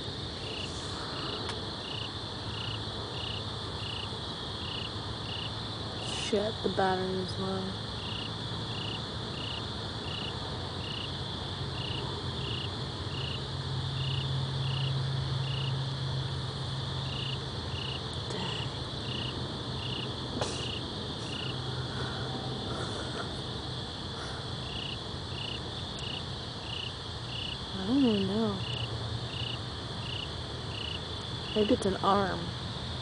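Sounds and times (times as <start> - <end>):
crickets chirping: 0.0 - 33.0
high insect trill: 0.0 - 33.0
steady low hum: 0.0 - 33.0.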